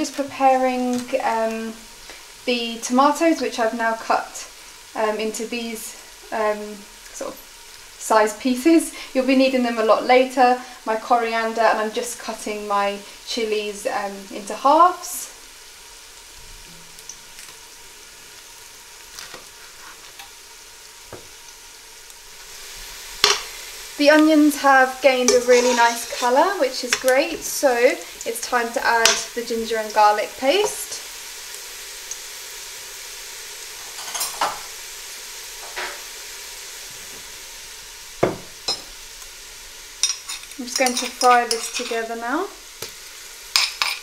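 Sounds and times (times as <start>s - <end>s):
onions sizzling in a pan: 0.0s - 44.0s.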